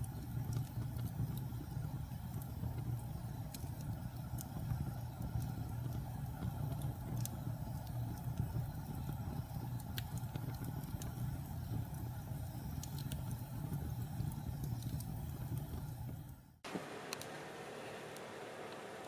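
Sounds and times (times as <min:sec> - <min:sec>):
fire crackling in fireplace: 0:00.0 - 0:19.0.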